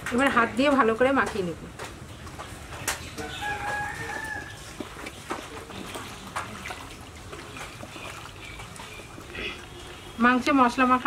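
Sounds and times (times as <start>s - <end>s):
wet squishing of food mixed by hand: 0.0s - 11.0s.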